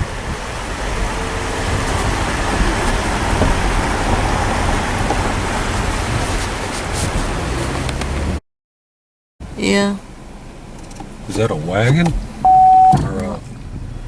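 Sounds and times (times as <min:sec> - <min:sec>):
low engine hum: 0:00.0 - 0:08.4, 0:09.4 - 0:14.0
road and wind noise in car: 0:00.0 - 0:08.4, 0:09.4 - 0:14.0.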